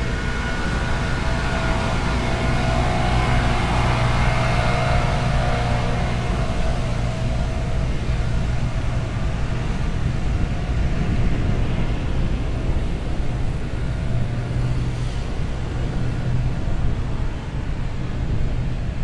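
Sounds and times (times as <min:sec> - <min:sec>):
steady low hum: 0:00.0 - 0:19.0
wind rumbling on microphone: 0:00.0 - 0:19.0.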